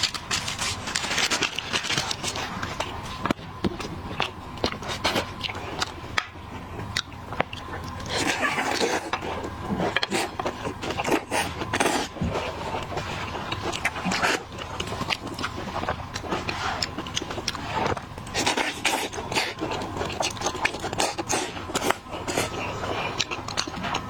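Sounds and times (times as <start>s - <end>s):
person chewing seafood: 0.0s - 24.0s.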